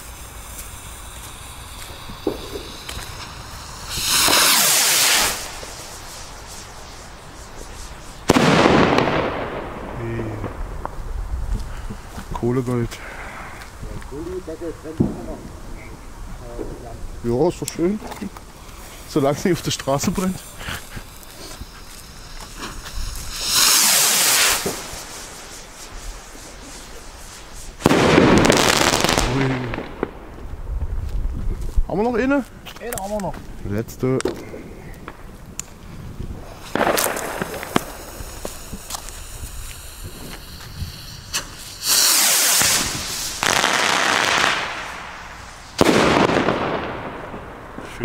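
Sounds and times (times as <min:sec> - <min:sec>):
firework rocket whoosh: 0:00.0 - 0:31.7, 0:36.0 - 0:48.0
firework bang and crackle: 0:00.0 - 0:48.0.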